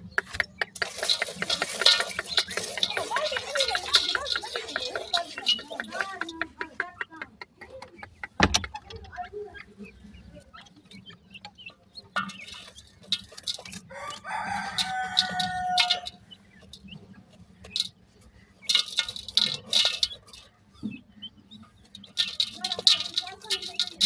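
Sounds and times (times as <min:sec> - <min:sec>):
clicking and scratching in soil: 0:00.0 - 0:24.0.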